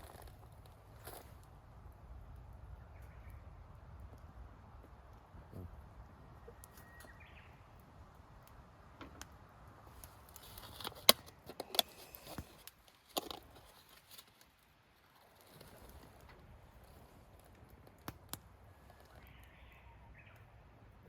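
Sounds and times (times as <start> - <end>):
faint outdoor background: 0.0 - 21.0.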